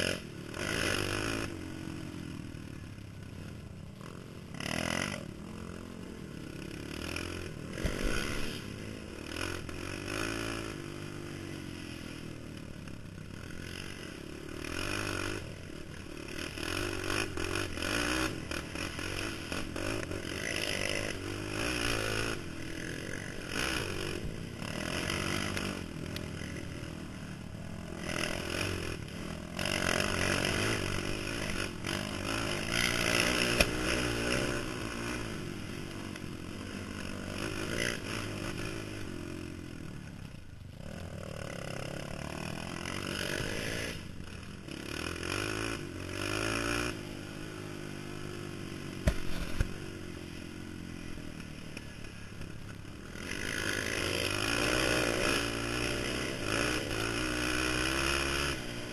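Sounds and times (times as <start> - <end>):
quad engine revving: 0.0 - 2.5, 4.5 - 58.9.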